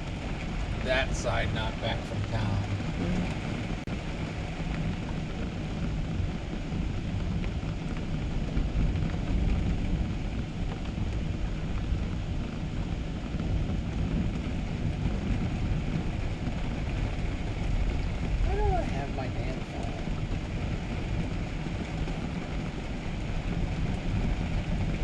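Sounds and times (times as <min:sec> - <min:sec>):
strong gusting wind: 0:00.0 - 0:25.0.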